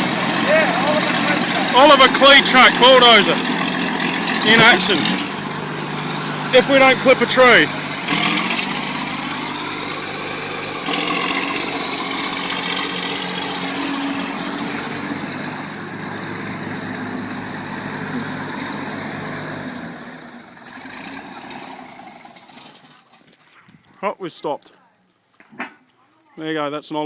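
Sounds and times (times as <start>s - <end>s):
crawler bulldozer running: 0.0s - 23.3s.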